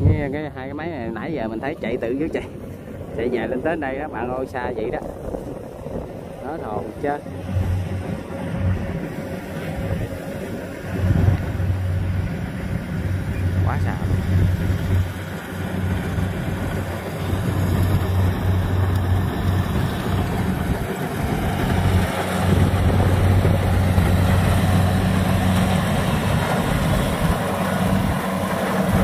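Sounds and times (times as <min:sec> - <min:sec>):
combine harvester engines running: 0:00.0 - 0:29.0.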